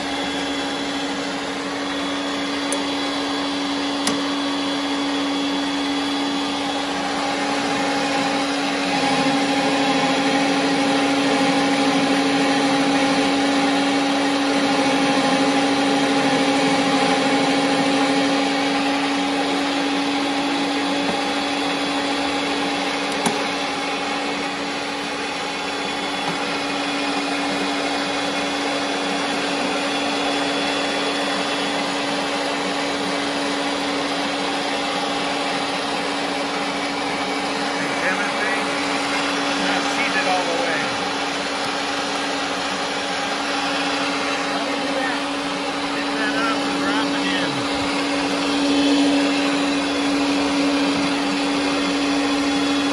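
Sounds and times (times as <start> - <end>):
threading machine motor hum: 0.0 - 52.9.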